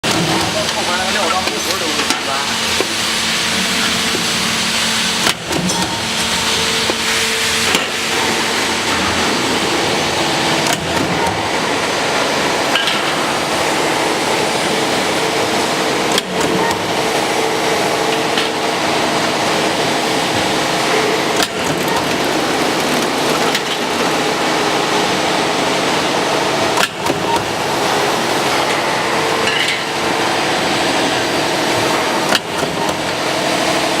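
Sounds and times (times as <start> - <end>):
roll-forming machine running: 0.0 - 34.0.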